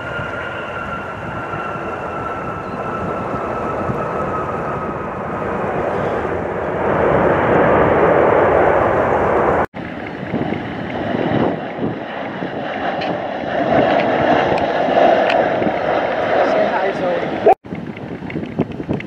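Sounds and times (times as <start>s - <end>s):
airliner jets on approach: 0.0s - 19.0s
jet airliner engines: 0.0s - 19.0s
wind on microphone: 0.0s - 19.0s.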